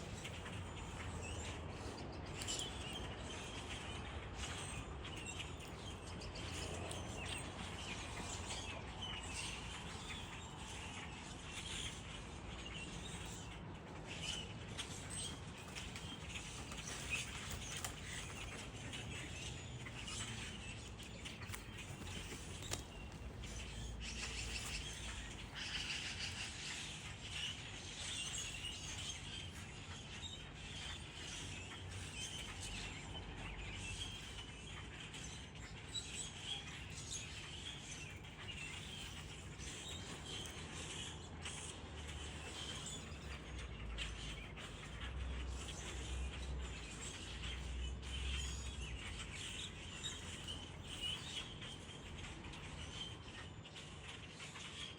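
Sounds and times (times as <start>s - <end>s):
wild birds chirping: 0.0s - 54.9s.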